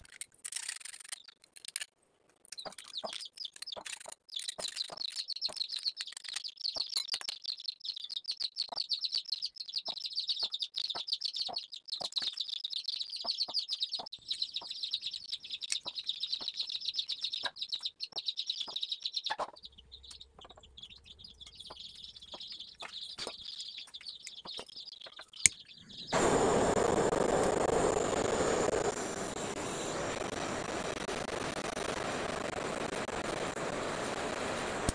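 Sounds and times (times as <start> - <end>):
small birds chirping: 0.6 - 34.9.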